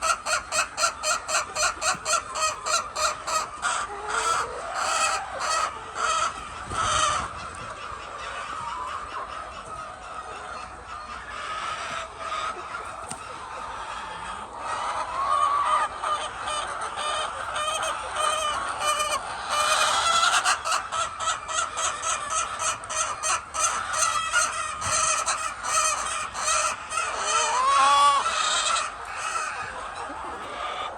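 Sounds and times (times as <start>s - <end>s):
chicken squawk: 0.0s - 30.9s
chickens clucking: 0.0s - 30.9s.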